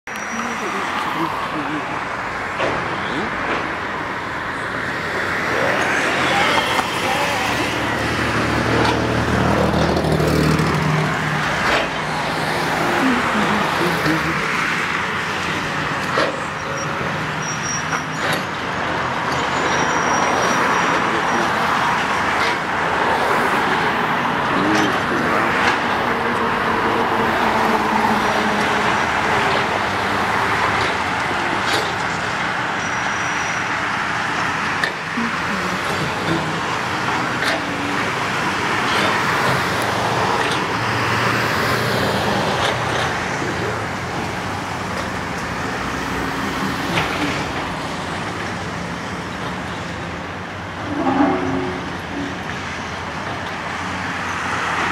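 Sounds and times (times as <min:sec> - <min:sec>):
road traffic: 0:00.0 - 0:54.9.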